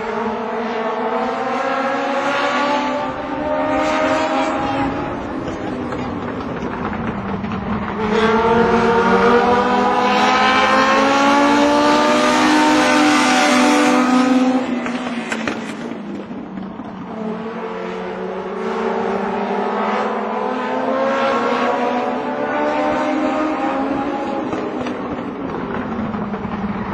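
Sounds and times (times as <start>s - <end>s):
race cars passing at speed: 0.0s - 26.9s.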